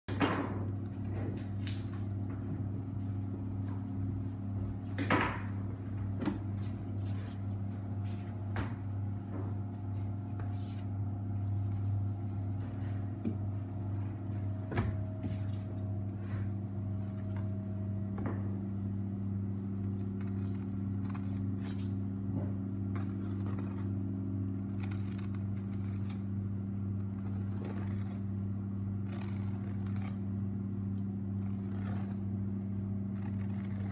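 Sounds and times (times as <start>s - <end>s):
machine hum: 0.1s - 33.9s.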